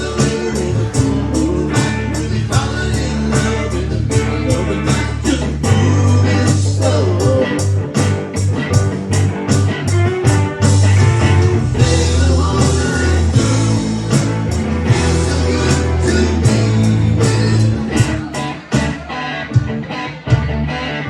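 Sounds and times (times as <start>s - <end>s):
band playing country-rock song: 0.0s - 21.0s.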